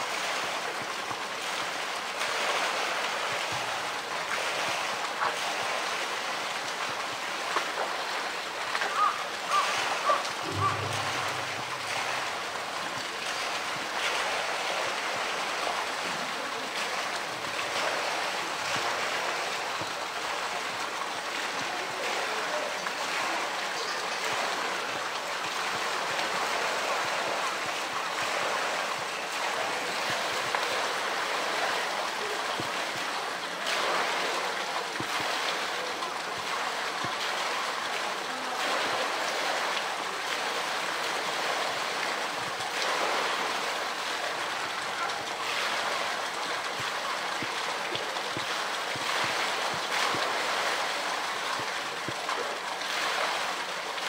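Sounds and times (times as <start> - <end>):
pool water splashing and lapping: 0.0 - 54.0.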